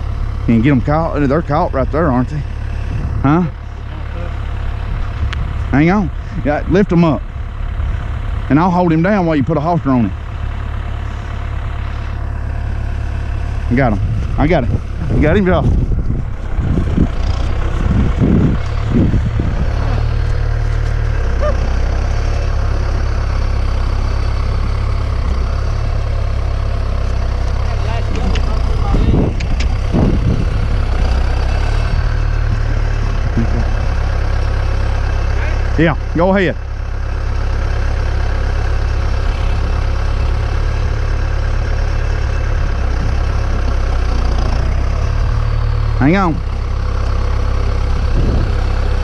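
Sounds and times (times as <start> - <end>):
tractor engine idling: 0.0 - 49.0.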